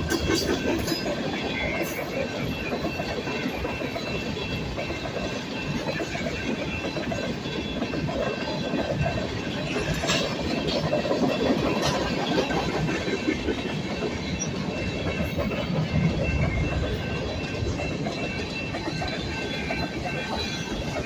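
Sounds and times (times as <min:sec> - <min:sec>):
freight train rumbling past: 0:00.0 - 0:21.0
wheels clicking over rail joints: 0:00.0 - 0:21.0.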